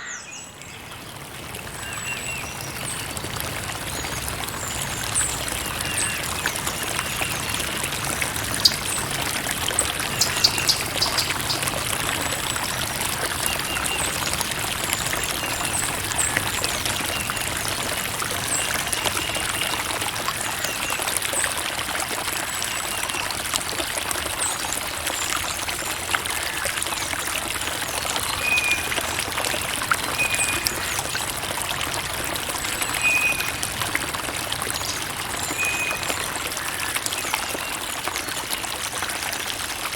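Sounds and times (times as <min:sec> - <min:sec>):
creek water trickling: 0:00.0 - 0:39.9
small water splashes: 0:00.6 - 0:39.9.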